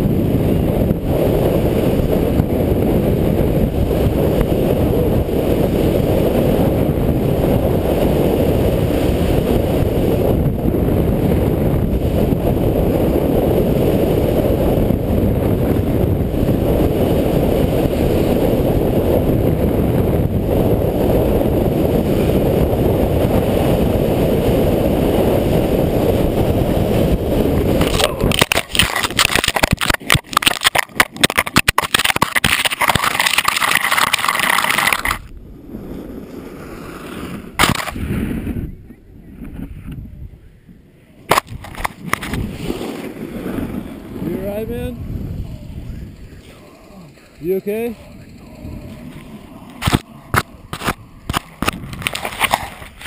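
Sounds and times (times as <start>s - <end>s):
snowboard sliding on snow: 0.0s - 38.7s, 41.4s - 53.0s
wind rushing over camera: 0.0s - 53.0s.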